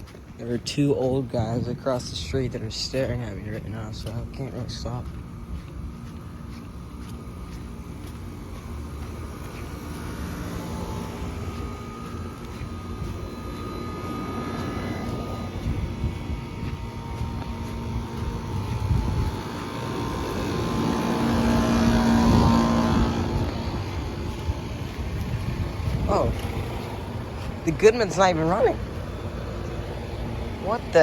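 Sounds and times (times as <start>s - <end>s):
wind rumbling on microphone: 0.0s - 8.5s, 9.2s - 31.0s
air conditioner fan hum: 0.0s - 31.0s.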